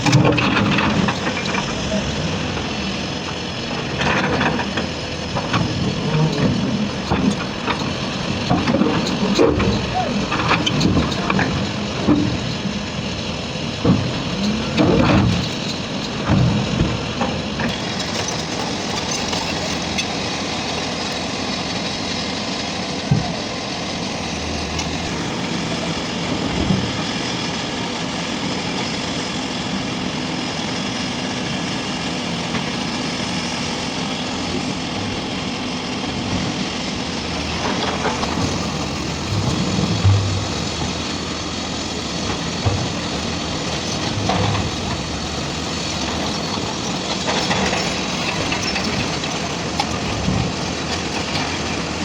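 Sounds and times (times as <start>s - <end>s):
heavy diesel machinery running: 0.0s - 52.0s.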